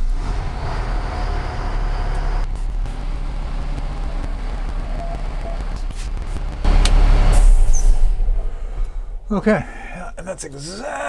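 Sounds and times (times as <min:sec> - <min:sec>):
diesel truck engine rumble: 0:00.0 - 0:10.4
rushing noise: 0:00.3 - 0:09.3.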